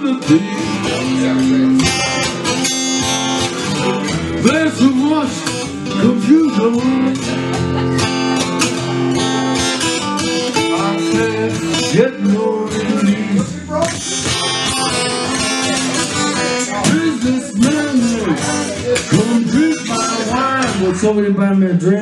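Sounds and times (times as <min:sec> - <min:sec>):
acoustic guitar strumming: 0:00.0 - 0:22.0
man singing: 0:00.0 - 0:22.0.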